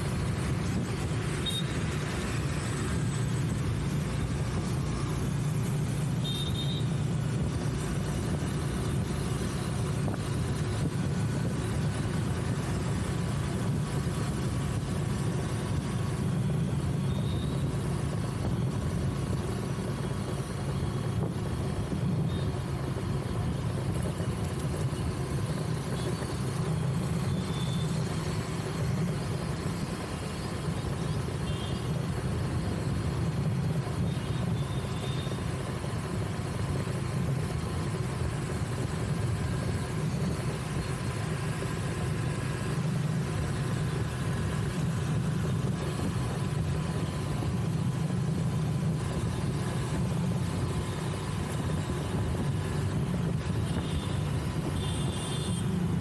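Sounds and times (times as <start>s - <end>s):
engine and tyre rumble: 0.0s - 56.0s
passing vehicles: 0.0s - 56.0s
wind: 0.0s - 56.0s.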